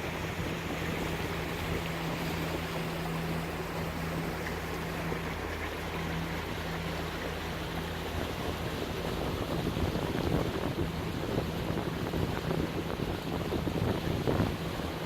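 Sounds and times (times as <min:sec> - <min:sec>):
water rushing along hulls: 0:00.0 - 0:15.0
wind buffeting microphone: 0:00.0 - 0:15.0.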